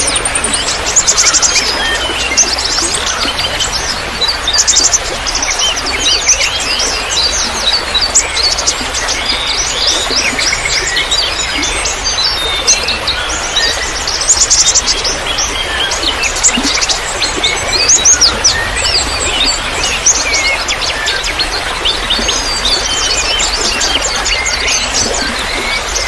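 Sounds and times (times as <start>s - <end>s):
small birds chirping: 0.0s - 26.0s
water trickling: 0.0s - 26.0s.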